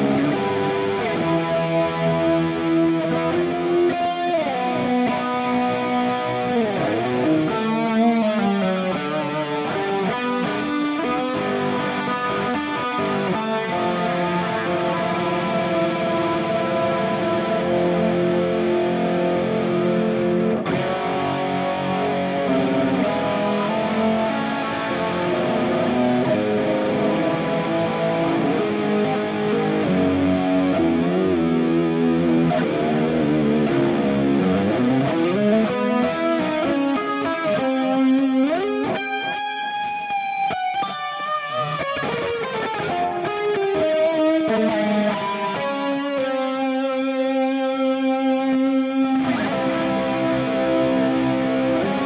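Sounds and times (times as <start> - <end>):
electric guitar playing: 0.0 - 52.0.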